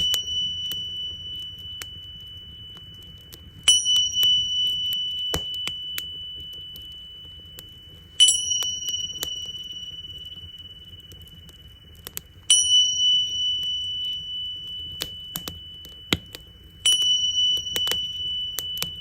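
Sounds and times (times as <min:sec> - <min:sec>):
tingsha cymbals ringing: 0:00.0 - 0:19.0
wood fire crackling: 0:00.0 - 0:19.0.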